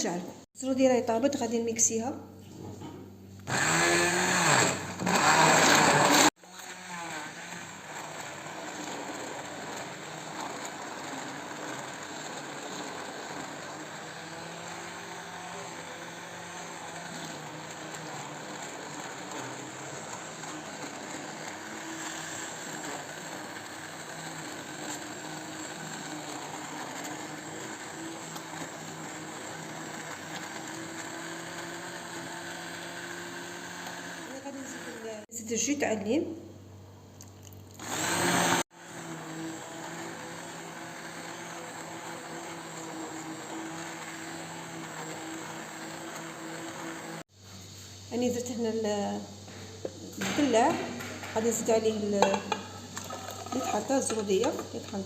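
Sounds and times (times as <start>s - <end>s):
blender motor whirring: 3.4s - 35.3s, 37.7s - 47.3s, 48.6s - 55.0s.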